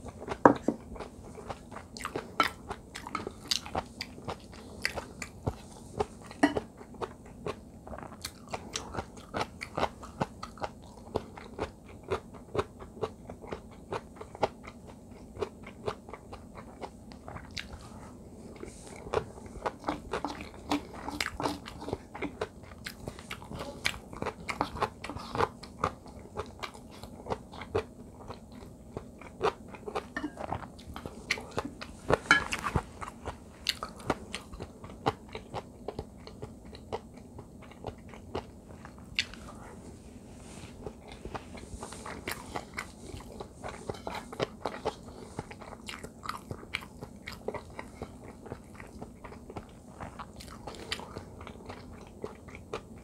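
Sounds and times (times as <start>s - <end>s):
close chewing crunches: 0.1s - 39.8s, 40.6s - 53.0s.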